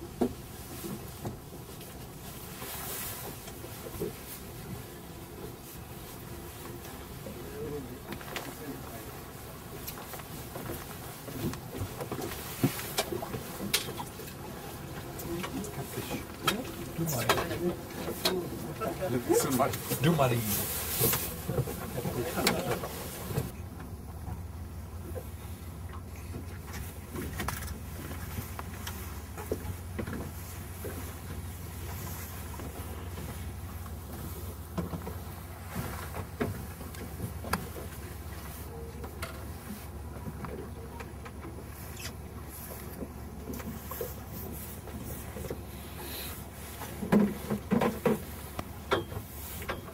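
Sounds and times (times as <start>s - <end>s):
water washing against boat: 0.0s - 49.9s.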